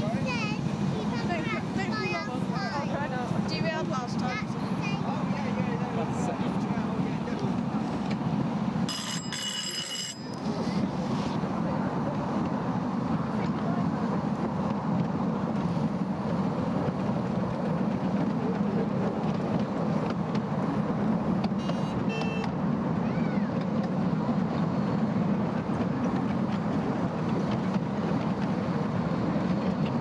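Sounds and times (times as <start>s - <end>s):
miniature train rumbling: 0.0s - 30.0s.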